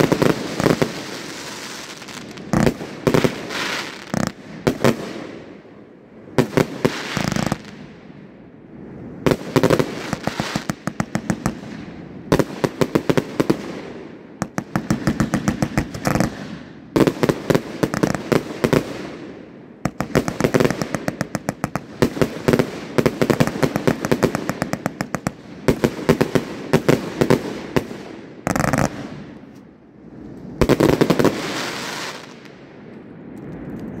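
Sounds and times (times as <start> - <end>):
firework stars crackling and bursting: 0.0 - 8.2, 8.8 - 34.0.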